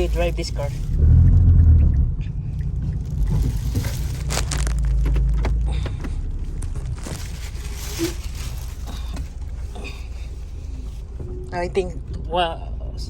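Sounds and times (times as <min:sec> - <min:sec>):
heavy low engine rumble: 0:00.0 - 0:13.0.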